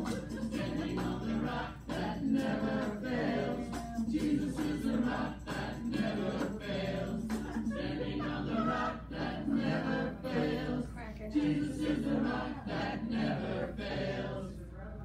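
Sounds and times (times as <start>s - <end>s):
group of people singing: 0.0s - 14.7s.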